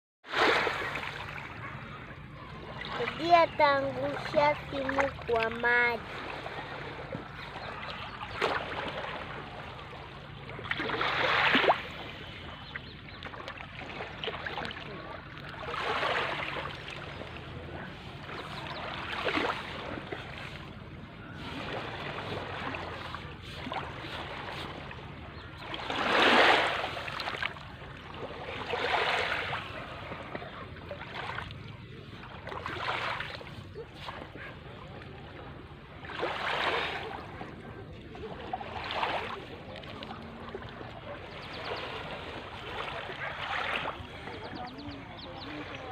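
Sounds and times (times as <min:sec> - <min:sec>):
waves washing in: 0:00.3 - 0:45.9.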